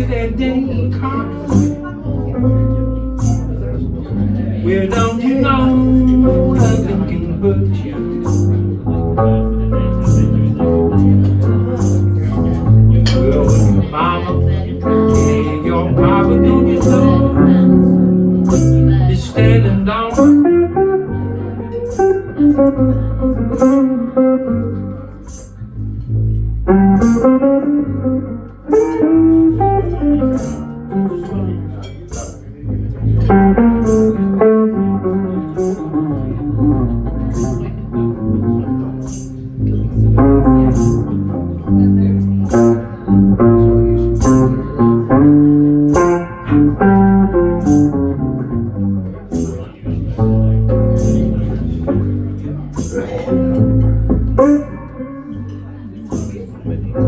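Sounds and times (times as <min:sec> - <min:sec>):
blues band playing: 0:00.0 - 0:57.0.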